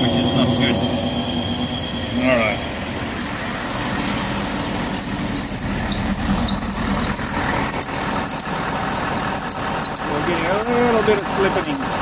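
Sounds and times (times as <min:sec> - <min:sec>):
diesel engine running: 0:00.0 - 0:12.0
drive belt chirping: 0:00.0 - 0:12.0.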